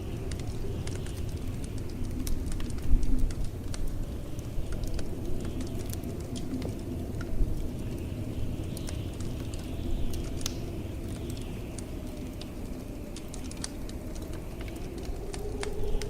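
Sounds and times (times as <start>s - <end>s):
howling blizzard wind: 0.0s - 16.0s
wood fire crackling: 0.0s - 16.0s.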